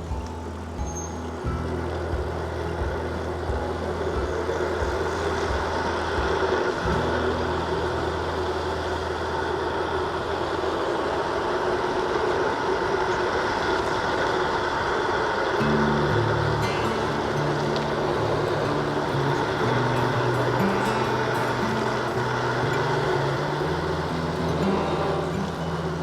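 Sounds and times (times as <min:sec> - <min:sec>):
traffic passing: 0:00.0 - 0:26.0.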